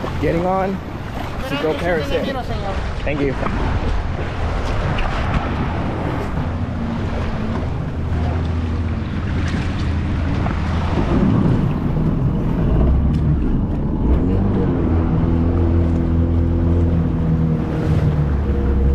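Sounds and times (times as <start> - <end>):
jet ski engine running: 0.0 - 18.9
rushing wind and water: 0.0 - 18.9.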